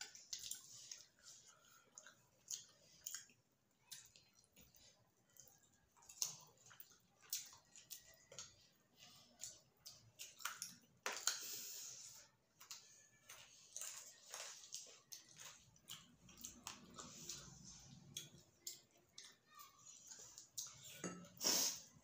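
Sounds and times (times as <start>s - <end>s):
wet chewing and lip smacks: 0.0s - 22.0s.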